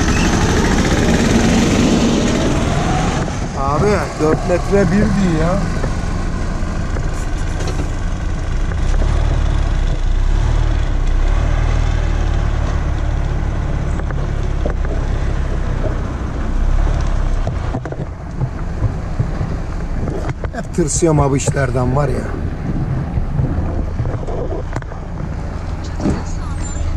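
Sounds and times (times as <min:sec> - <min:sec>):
truck diesel engine running: 0:00.0 - 0:26.9.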